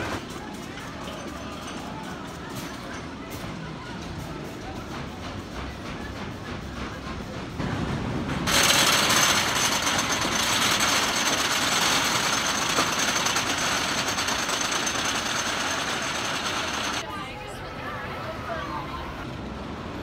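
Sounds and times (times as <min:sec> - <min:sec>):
roller coaster lift chain clatter: 0:00.0 - 0:17.0.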